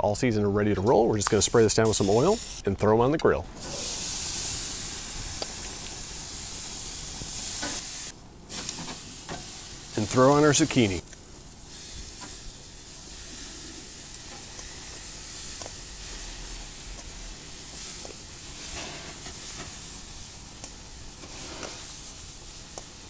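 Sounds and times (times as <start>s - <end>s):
food sizzling on a grill: 1.4s - 2.6s, 3.6s - 23.0s.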